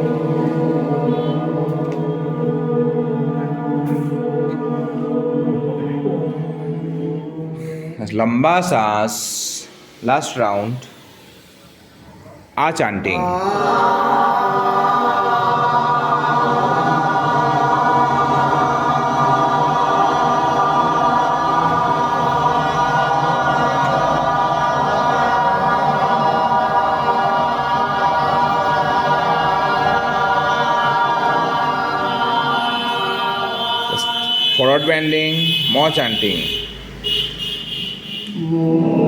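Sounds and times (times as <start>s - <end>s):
voices chanting in unison: 0.0s - 11.6s, 12.8s - 39.0s.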